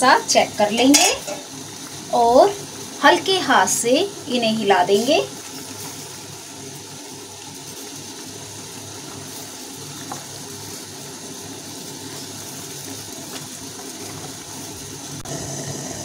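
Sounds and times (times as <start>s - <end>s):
syrup boiling in a pot: 0.0s - 16.0s.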